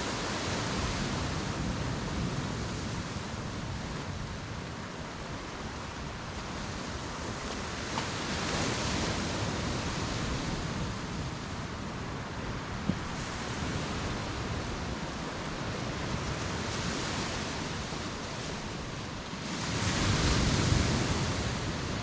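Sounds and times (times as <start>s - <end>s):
ocean surf washing on shore: 0.0s - 22.0s.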